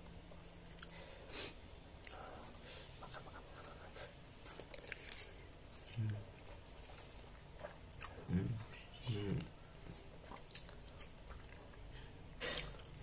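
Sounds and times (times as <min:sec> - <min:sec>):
person chewing: 0:00.1 - 0:13.0.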